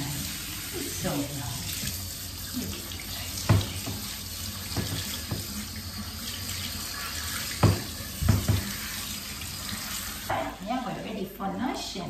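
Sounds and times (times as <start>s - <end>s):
shower sprayer water hissing: 0.0s - 10.9s.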